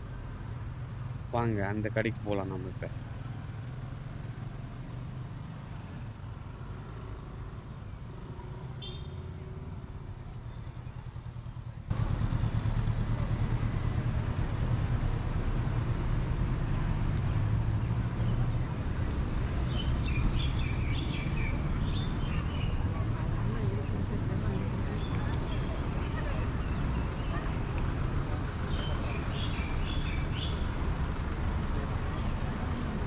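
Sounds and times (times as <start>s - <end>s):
rumble of passing vehicles: 0.0s - 33.0s.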